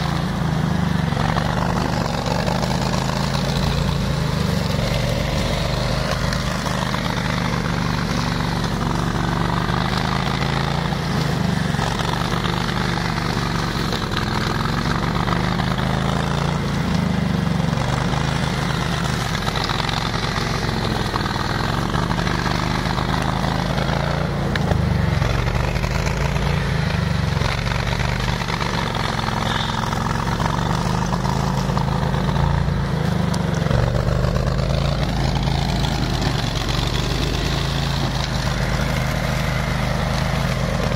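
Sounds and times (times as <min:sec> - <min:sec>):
ride-on mower engine running: 0:00.0 - 0:40.9.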